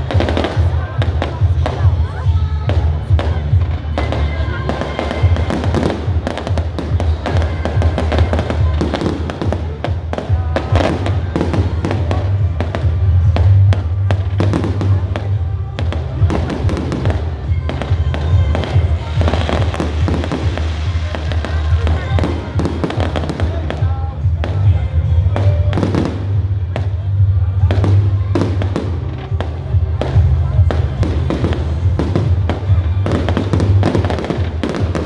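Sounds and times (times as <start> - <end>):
fireworks bangs and crackles: 0.0 - 35.0
loud music with bass: 0.0 - 35.0
murmuring crowd voices: 0.0 - 35.0.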